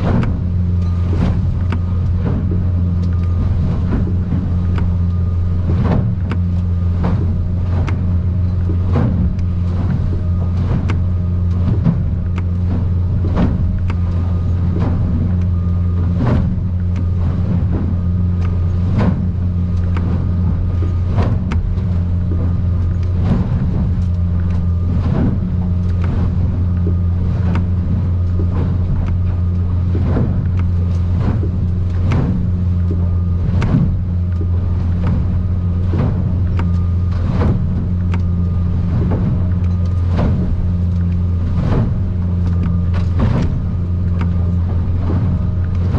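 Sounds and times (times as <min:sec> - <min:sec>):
hull slapping on waves: 0:00.0 - 0:45.9
outboard motor running: 0:00.0 - 0:45.9.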